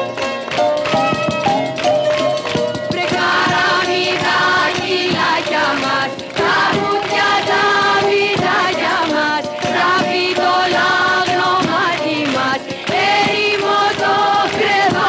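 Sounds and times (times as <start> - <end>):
instrumental music: 0.0 - 15.0
sharp percussive beats: 0.0 - 15.0
women's chorus singing: 2.9 - 15.0.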